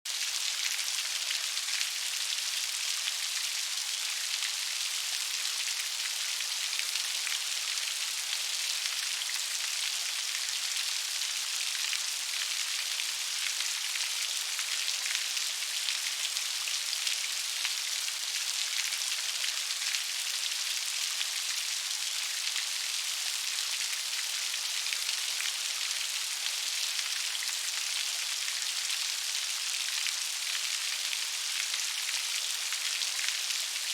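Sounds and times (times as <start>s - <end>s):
rain on leaves: 0.1s - 33.9s.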